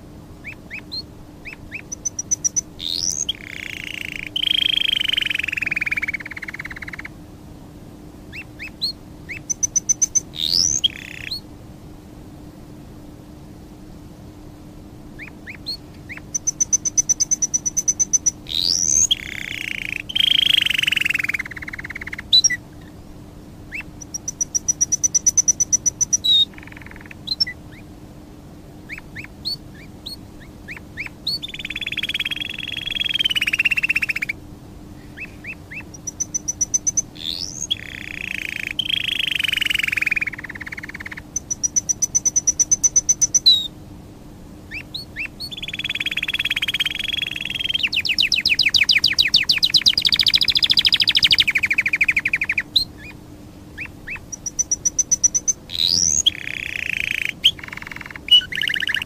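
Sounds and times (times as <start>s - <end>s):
faint low hum: 0.0s - 59.0s
bird chirping calls sweeping upward: 0.4s - 7.1s, 8.3s - 11.4s, 15.2s - 22.6s, 23.7s - 27.9s, 28.9s - 34.4s, 35.0s - 43.7s, 44.7s - 53.2s, 53.8s - 59.0s
bird trilling: 0.4s - 7.2s, 8.3s - 11.4s, 15.2s - 23.0s, 23.7s - 27.9s, 28.8s - 34.4s, 35.0s - 43.7s, 44.7s - 59.0s.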